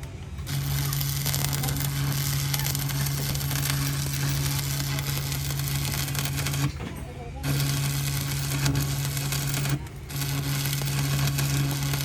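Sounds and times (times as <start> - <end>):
arc welding buzz and crackle: 0.0 - 12.0.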